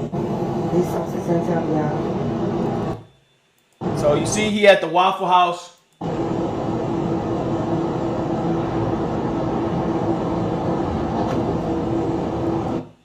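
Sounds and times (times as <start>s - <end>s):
steady rumbling with hum: 0.0s - 3.1s, 3.8s - 4.7s, 6.0s - 13.0s.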